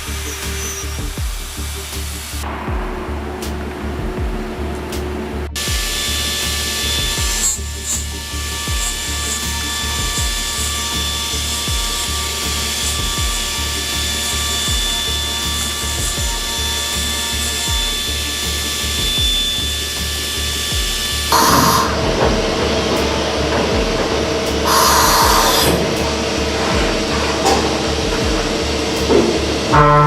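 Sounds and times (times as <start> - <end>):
cutter chatter: 0.0 - 30.0
spindle whine: 0.0 - 30.0.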